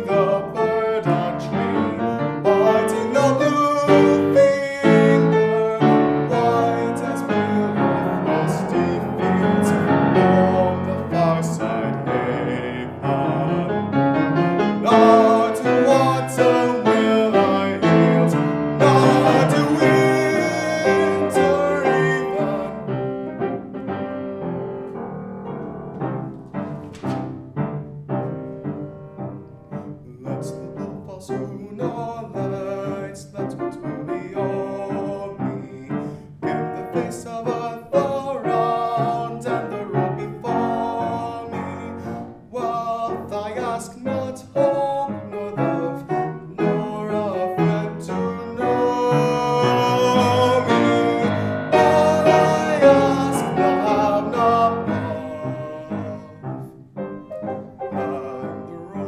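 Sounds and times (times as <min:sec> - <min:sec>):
man singing art song: 0:00.0 - 0:23.4, 0:29.6 - 0:56.7, 0:57.7 - 0:59.0
piano chords: 0:00.0 - 0:59.0.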